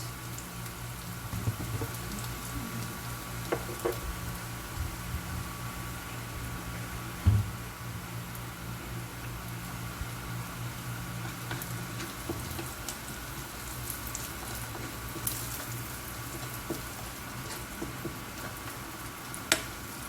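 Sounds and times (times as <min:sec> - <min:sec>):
garlic and onion sizzling in oil: 0:00.0 - 0:20.0.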